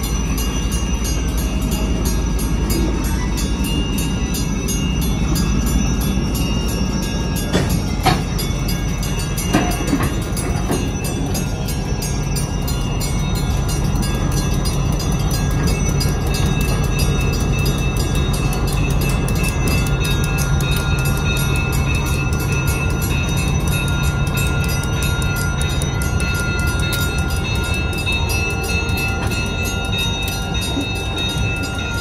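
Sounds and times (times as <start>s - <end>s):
crossing bell ringing: 0.0s - 32.0s
diesel locomotive engines droning: 0.0s - 32.0s
train wheels clicking: 0.0s - 32.0s.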